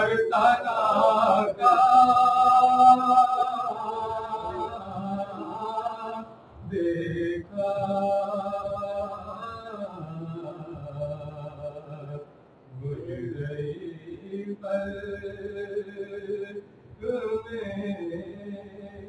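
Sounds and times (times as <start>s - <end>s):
man chanting into a microphone: 0.0s - 12.2s, 12.8s - 19.0s.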